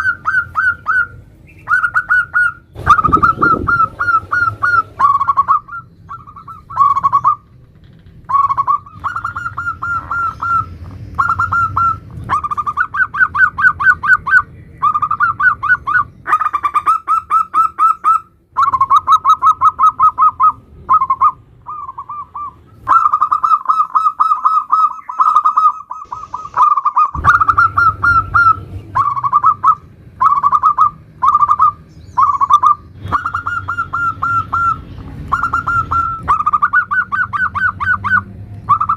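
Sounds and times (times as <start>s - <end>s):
dove trilled cooing: 0.0s - 7.6s, 8.3s - 38.9s.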